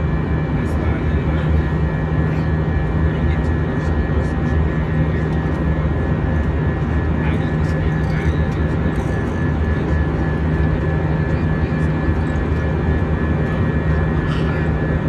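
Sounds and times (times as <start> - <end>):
jet engine drone: 0.0 - 15.0.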